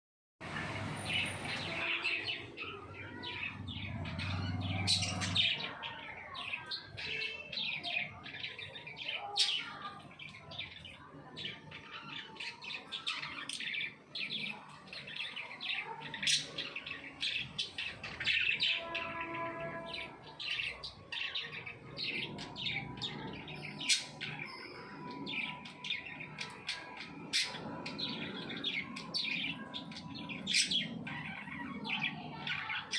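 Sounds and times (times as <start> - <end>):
birds chirping: 0.4 - 32.9.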